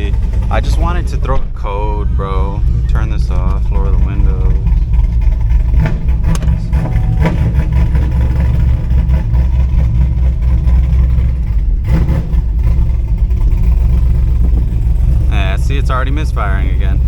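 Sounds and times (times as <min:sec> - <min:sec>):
engine idling roughly with misfire: 0:00.0 - 0:17.0.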